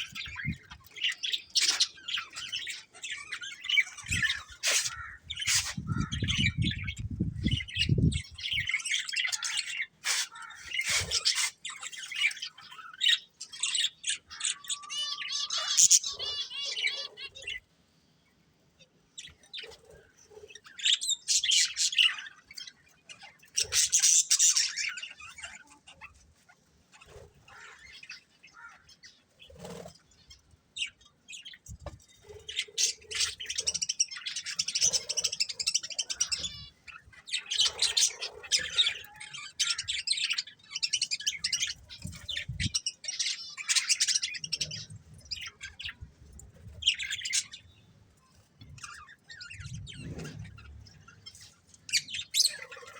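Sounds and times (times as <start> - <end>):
budgerigars chirping and chattering: 0.0 - 17.7, 18.8 - 52.9.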